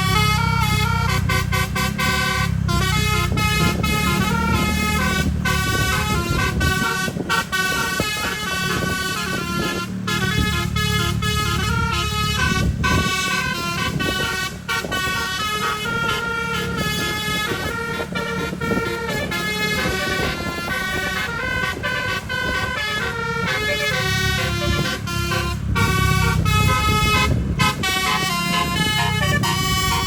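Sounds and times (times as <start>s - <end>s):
bus air horn melody: 0.0s - 30.0s
low vehicle rumble: 0.0s - 30.0s.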